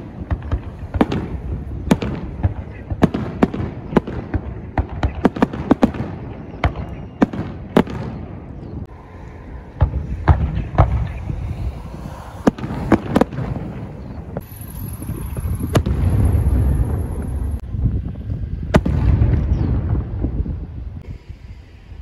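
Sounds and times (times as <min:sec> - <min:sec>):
firework bangs: 0:00.0 - 0:08.7, 0:09.7 - 0:17.6, 0:18.7 - 0:20.4
continuous low rumble: 0:00.0 - 0:22.0.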